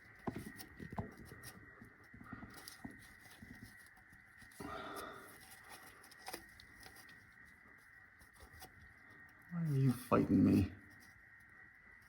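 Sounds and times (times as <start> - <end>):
scraping rustle: 0.0 - 11.6.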